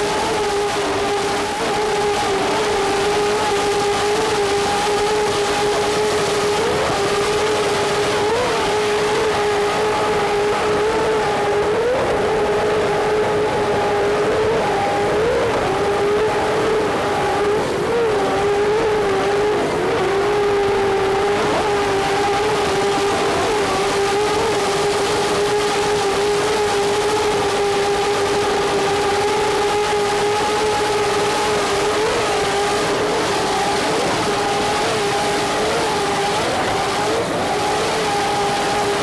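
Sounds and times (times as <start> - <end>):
engine drone: 0.0 - 39.0.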